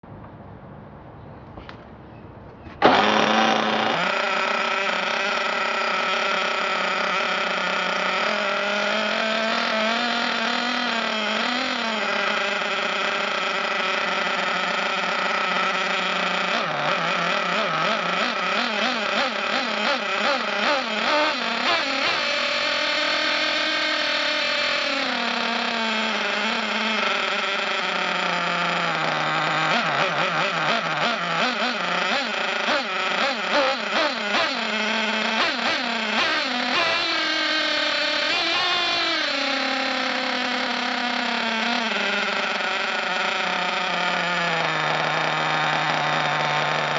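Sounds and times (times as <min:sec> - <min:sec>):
small glow engine buzzing: 0:02.8 - 0:46.9.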